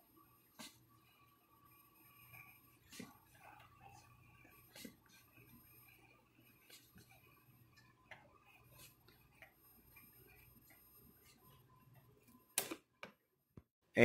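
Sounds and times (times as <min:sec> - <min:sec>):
low steady hum: 0:00.0 - 0:12.6.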